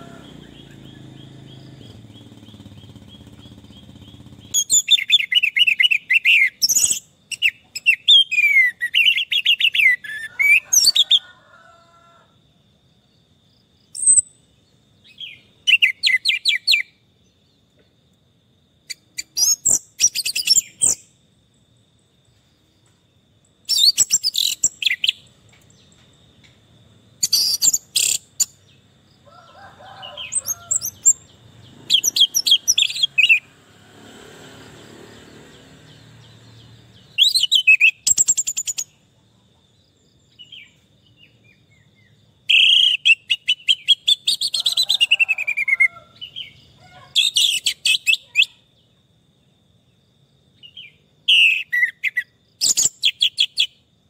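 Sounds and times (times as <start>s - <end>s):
thrush singing whistles and trills: 0.0s - 11.2s, 13.8s - 17.7s, 18.8s - 22.0s, 23.5s - 39.1s, 40.2s - 49.0s, 50.6s - 53.9s.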